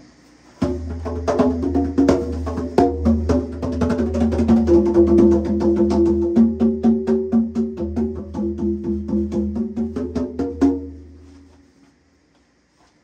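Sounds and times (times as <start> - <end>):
clicking wood block beat: 0.6 - 11.2.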